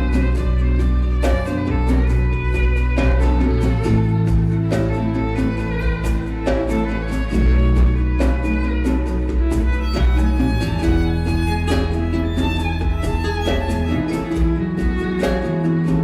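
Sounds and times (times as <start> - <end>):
bass: 0.0 - 16.0
steady drum beat: 0.0 - 16.0
violin melody: 0.0 - 16.0.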